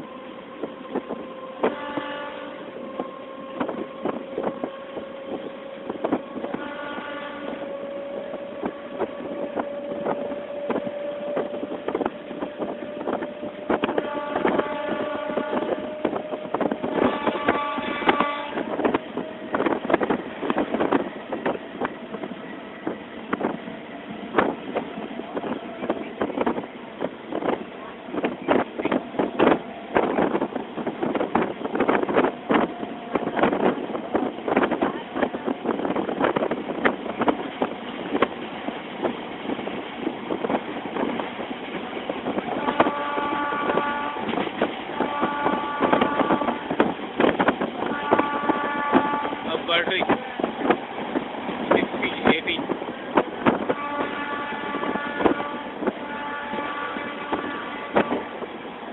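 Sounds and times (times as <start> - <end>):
train running rushing noise: 0.0 - 58.9.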